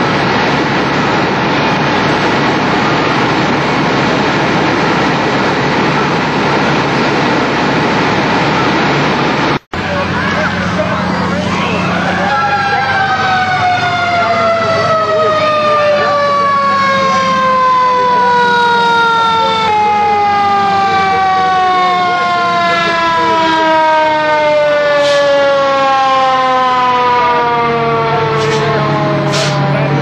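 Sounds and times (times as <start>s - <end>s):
fire truck siren winding down: 0.0s - 30.0s
wavering siren tones: 0.0s - 30.0s.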